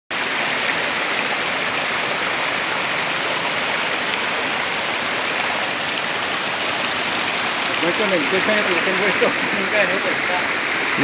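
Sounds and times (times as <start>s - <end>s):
water rushing over rocks: 0.1s - 11.0s.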